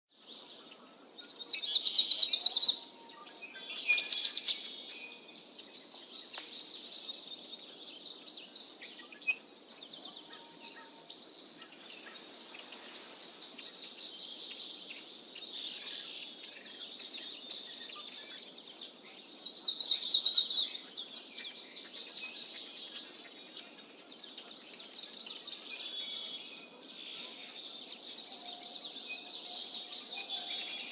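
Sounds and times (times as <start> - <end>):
songbirds singing and chirping: 0.1 - 30.9.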